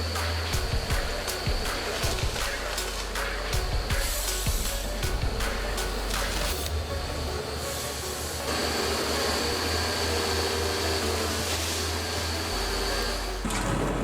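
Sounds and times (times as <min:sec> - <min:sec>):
forestry machinery humming: 0:00.0 - 0:14.0.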